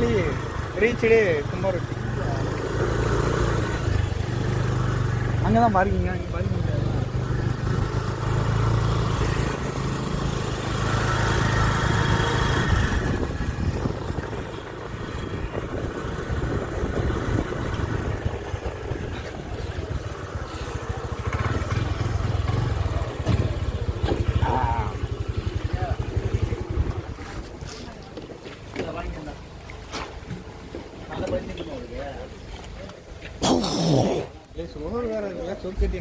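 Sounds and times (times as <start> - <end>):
motorcycle engine running: 0.0 - 29.4.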